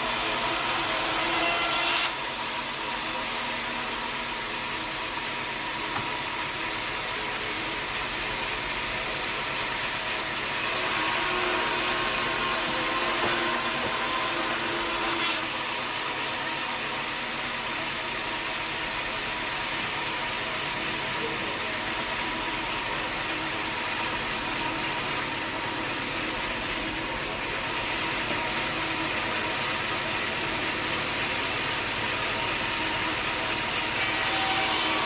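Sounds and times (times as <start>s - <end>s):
sawmill machinery humming: 0.0s - 35.0s.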